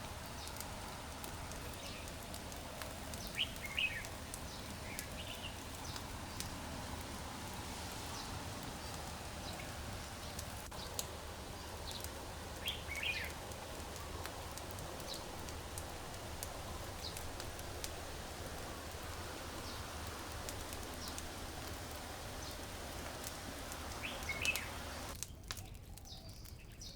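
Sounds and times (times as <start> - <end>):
waterfall rushing: 0.0 - 25.1.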